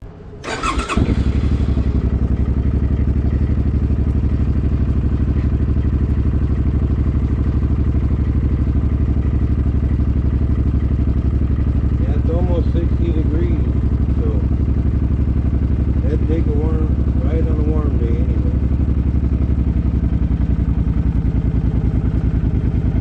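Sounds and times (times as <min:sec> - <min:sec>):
motorcycle engine idling: 0:00.1 - 0:23.0.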